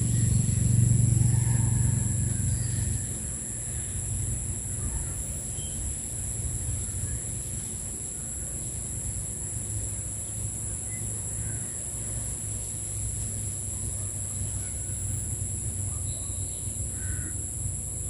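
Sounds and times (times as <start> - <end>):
insects trilling: 0.0 - 18.0
low steady rumble: 0.0 - 18.0.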